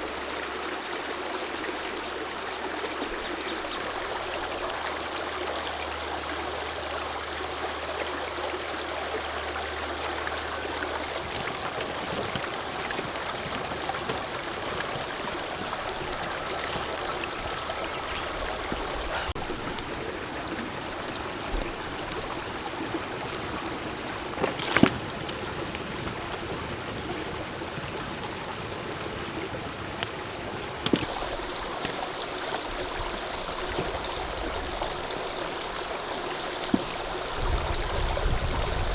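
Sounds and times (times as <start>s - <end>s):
stream running: 0.0s - 38.9s.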